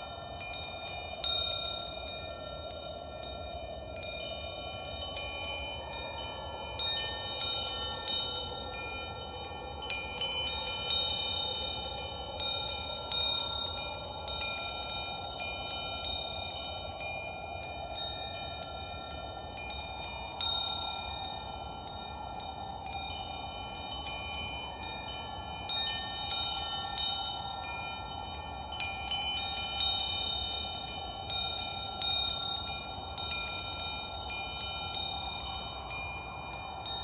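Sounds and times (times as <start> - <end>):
wind chimes ringing: 0.0 - 37.0.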